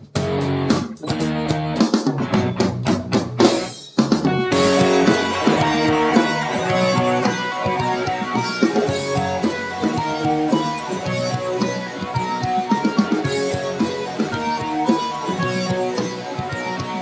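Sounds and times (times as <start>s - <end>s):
instrumental guitar and drums music: 0.0s - 17.0s.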